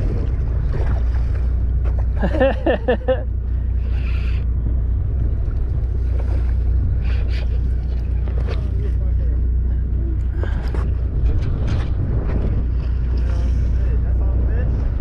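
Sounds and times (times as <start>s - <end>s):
wind on microphone: 0.0s - 2.3s, 3.4s - 15.0s
boat engine rumbling: 0.0s - 15.0s.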